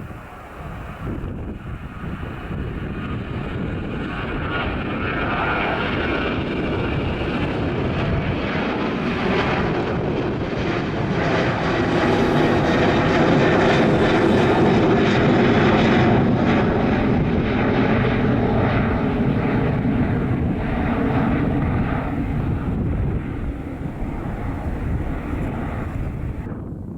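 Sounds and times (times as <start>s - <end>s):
airliner engines passing: 0.0s - 26.9s.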